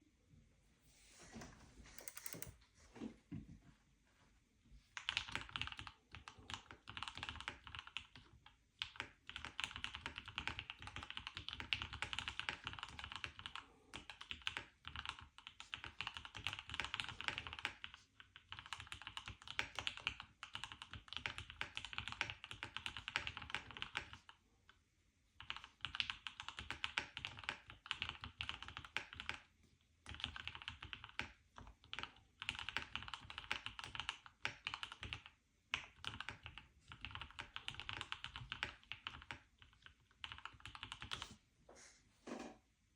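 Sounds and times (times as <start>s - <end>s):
typing on mechanical keyboard: 2.0s - 2.6s, 5.0s - 24.4s, 25.4s - 29.5s, 30.1s - 41.3s.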